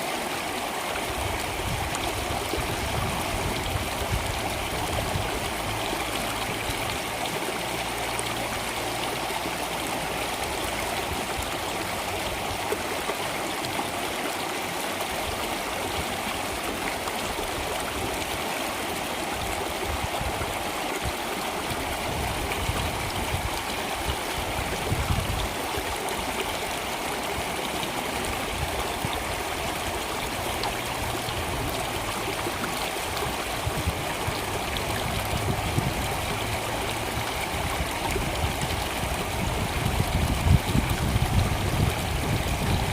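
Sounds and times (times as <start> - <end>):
stream water flowing: 0.0 - 42.9.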